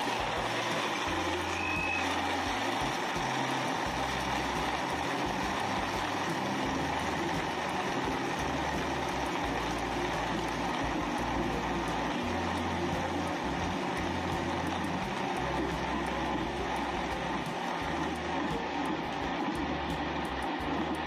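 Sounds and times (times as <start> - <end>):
blender crushing ice: 0.0 - 21.0.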